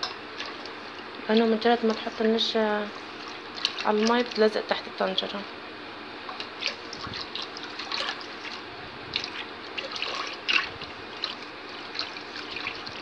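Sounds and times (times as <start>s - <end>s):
whisk sloshing liquid: 0.4s - 4.6s, 6.3s - 13.0s.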